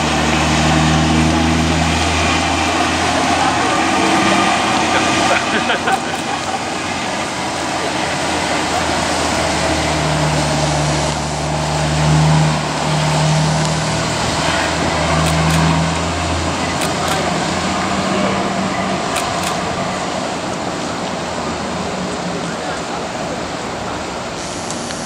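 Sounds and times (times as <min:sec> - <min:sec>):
boat engine noise: 0:00.0 - 0:25.0
low drone: 0:00.0 - 0:25.0
water spraying from cannons: 0:00.0 - 0:25.0.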